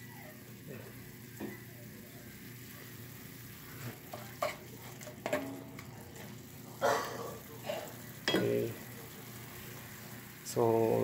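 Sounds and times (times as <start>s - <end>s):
sauce simmering with light sizzle: 0.0s - 11.0s.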